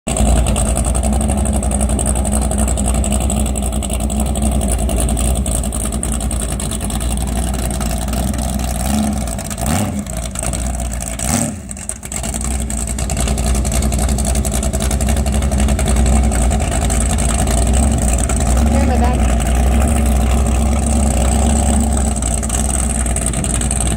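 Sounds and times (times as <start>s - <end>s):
boat engine running hard: 0.1s - 23.9s.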